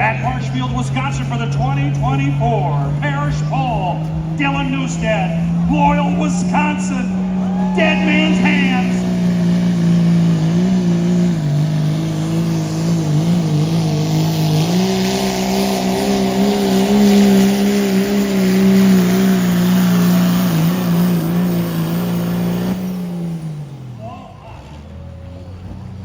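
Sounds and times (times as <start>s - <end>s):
diesel engine at high revs: 0.0s - 26.0s.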